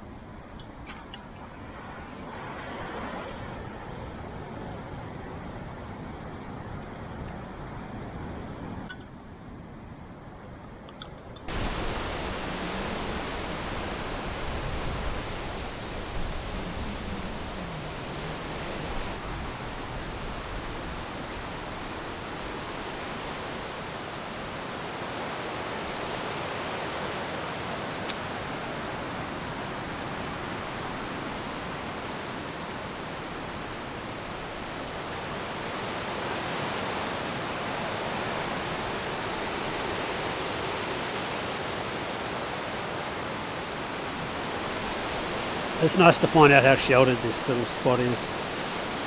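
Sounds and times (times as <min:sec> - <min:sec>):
wind rushing through trees: 0:00.0 - 0:49.0.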